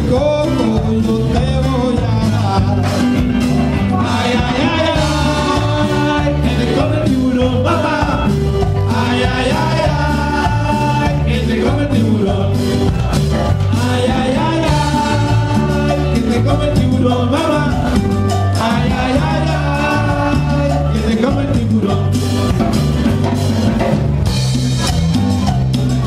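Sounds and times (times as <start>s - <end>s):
person singing: 0.0s - 22.6s
electric guitar: 0.0s - 26.0s
repeating bass line: 0.0s - 26.0s.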